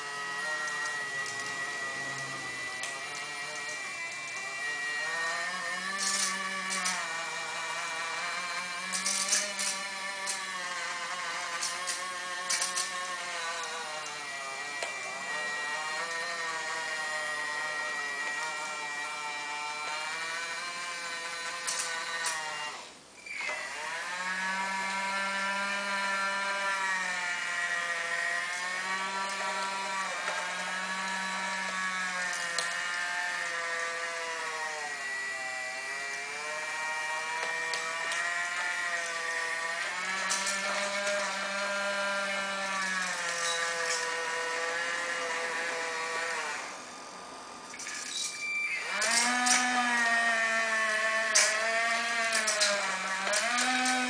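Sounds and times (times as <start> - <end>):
toy motor and gears whining: 0.0 - 54.0.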